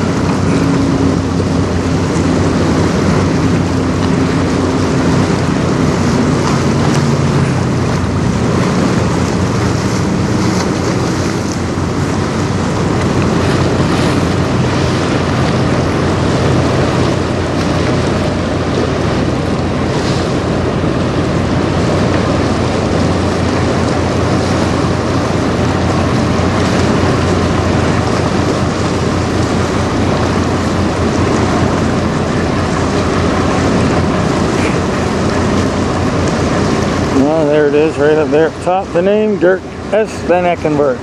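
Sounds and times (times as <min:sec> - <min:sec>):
barge engine drone: 0:00.0 - 0:41.0
water washing along hull: 0:00.0 - 0:41.0
wind buffeting microphone: 0:00.0 - 0:41.0.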